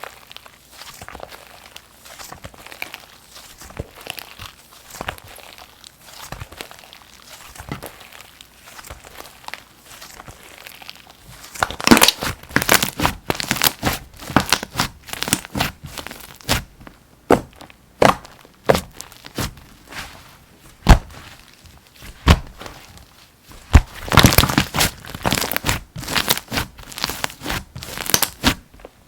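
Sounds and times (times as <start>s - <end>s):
slime squished by hand: 0.0s - 29.0s.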